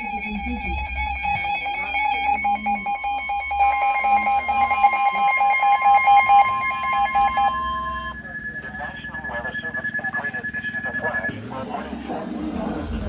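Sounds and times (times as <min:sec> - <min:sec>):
higher alarm tone: 0:00.0 - 0:11.4
steady alarm tone: 0:00.0 - 0:11.4.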